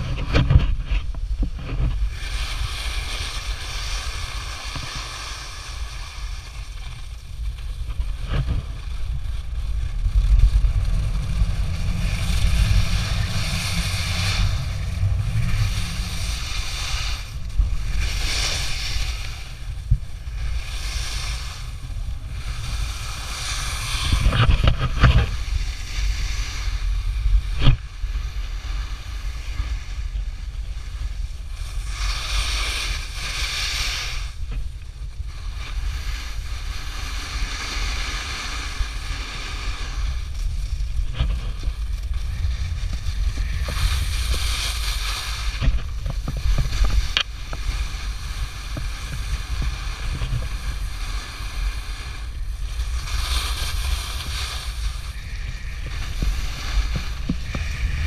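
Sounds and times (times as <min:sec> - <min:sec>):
snowboard scraping over snow: 0:00.0 - 0:58.0
wind buffeting microphone: 0:00.0 - 0:58.0.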